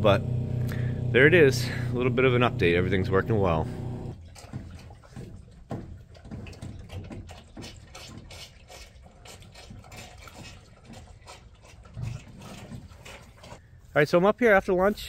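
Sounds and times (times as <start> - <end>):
water sounds: 0.0 - 13.6.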